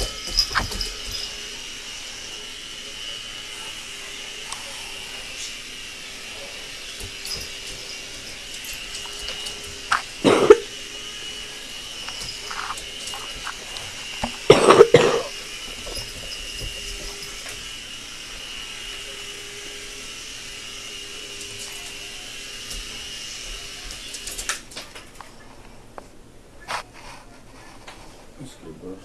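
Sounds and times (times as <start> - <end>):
small motor whining: 0.0 - 24.8.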